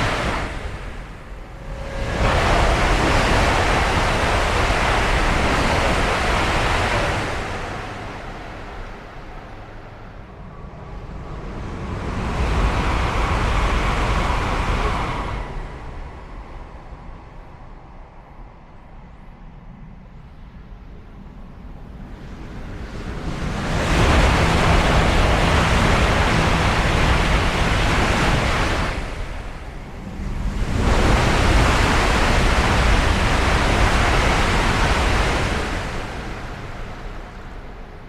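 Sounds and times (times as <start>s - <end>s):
high-speed train passing: 0.0s - 38.0s.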